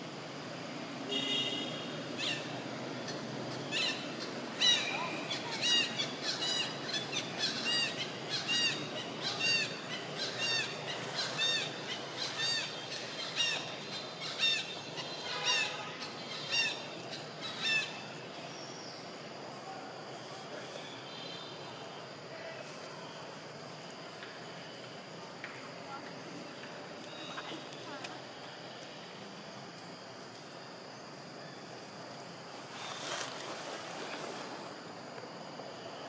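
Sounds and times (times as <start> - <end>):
faint forest noise: 0.0 - 36.0.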